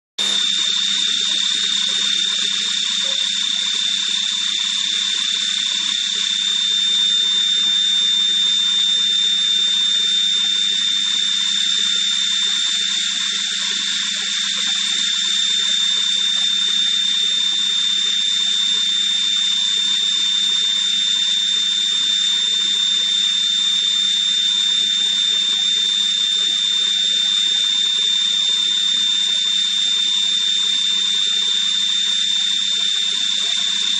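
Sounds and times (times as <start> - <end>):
machine high-pitched whine: 0.2 - 33.9.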